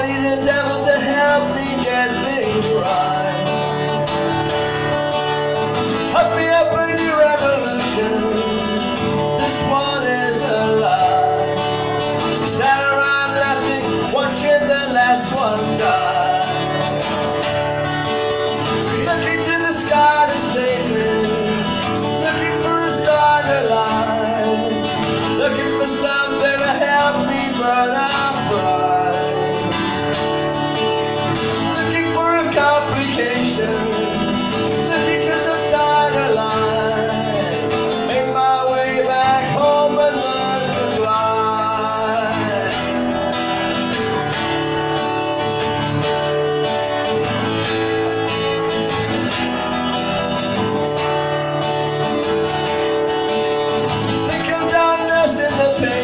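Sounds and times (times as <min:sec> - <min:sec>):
man singing: 0:00.0 - 0:49.3, 0:51.2 - 0:56.0
acoustic guitar strumming: 0:00.0 - 0:56.0.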